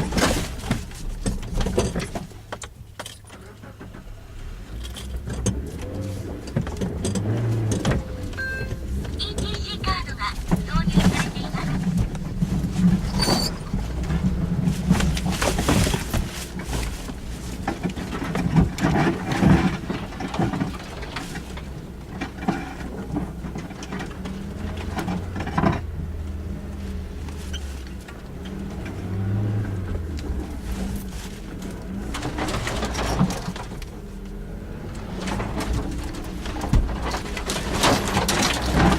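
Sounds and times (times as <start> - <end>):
knocks and rattles: 0.0 - 3.4, 4.9 - 38.9
car engine running at low revs: 0.0 - 38.9.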